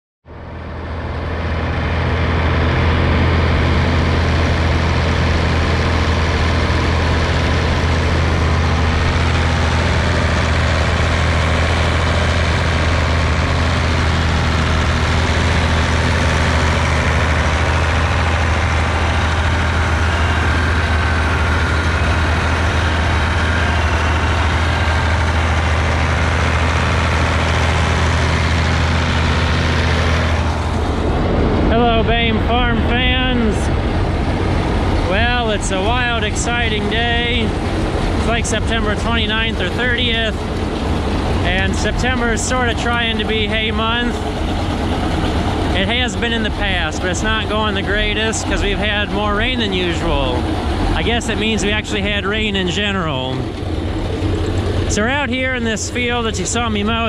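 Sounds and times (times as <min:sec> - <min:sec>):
tractor engine running: 0:00.3 - 0:57.0.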